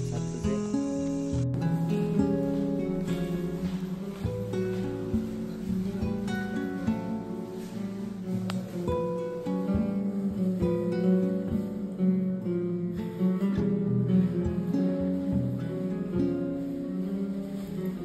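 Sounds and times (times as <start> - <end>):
acoustic guitar plucking: 0.0 - 18.0.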